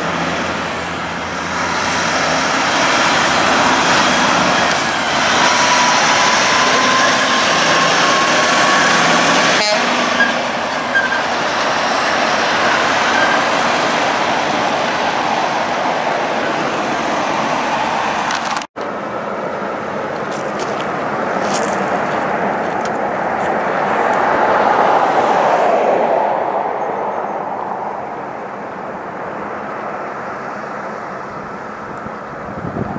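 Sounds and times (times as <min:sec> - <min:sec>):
trucks driving past: 0:00.0 - 0:32.9.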